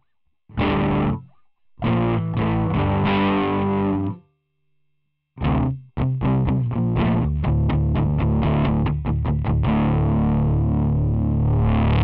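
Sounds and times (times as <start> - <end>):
distorted electric guitar chords: 0.5 - 4.2, 5.4 - 12.0.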